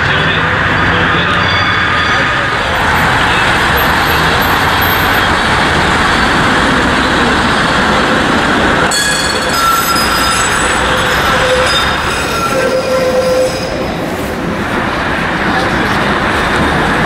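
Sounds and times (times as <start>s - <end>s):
city traffic: 0.0s - 17.0s
tram running on rails: 0.0s - 17.0s
tram wheels squealing: 0.0s - 17.0s.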